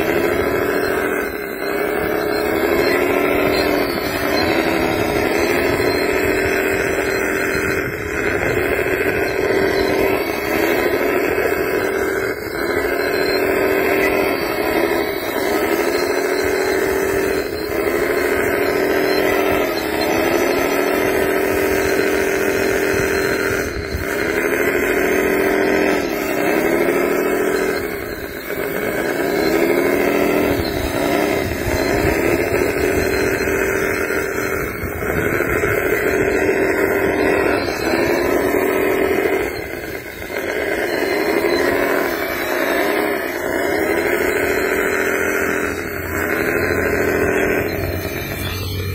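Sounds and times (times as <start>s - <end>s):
small motor whining: 0.0s - 48.9s.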